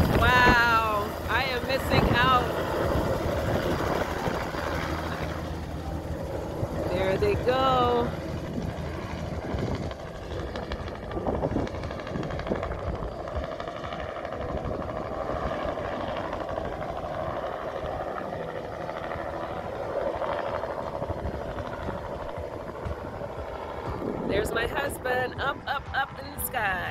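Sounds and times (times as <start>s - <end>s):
helicopter rotor and engine: 0.0s - 26.9s.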